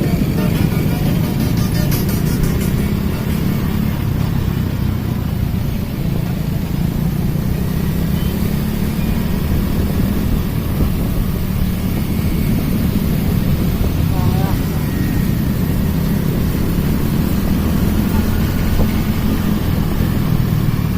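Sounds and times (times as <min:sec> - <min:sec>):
city street traffic rumble: 0:00.0 - 0:20.9.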